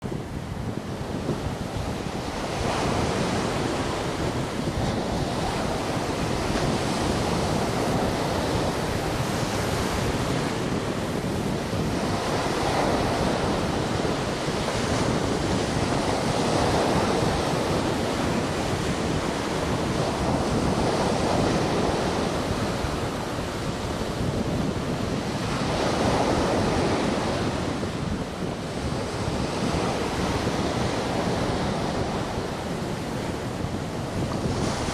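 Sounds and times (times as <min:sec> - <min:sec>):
sea waves breaking on shore: 0:00.0 - 0:34.9
wind on microphone: 0:00.0 - 0:34.9.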